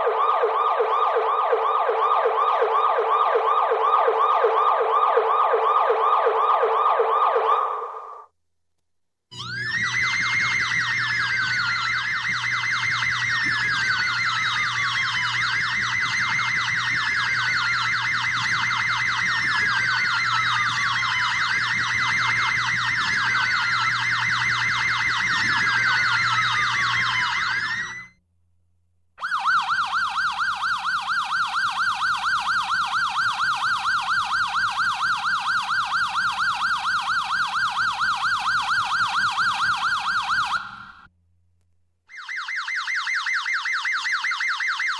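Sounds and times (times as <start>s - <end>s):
siren wailing: 0.0s - 8.3s, 9.3s - 28.2s, 29.2s - 41.1s, 42.1s - 44.9s
siren yelping: 0.0s - 8.3s, 9.3s - 28.2s, 29.2s - 41.1s, 42.1s - 44.9s.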